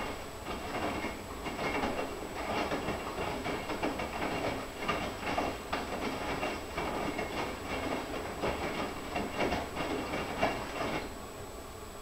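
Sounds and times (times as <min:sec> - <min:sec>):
washing machine water sloshing: 0:00.0 - 0:11.1.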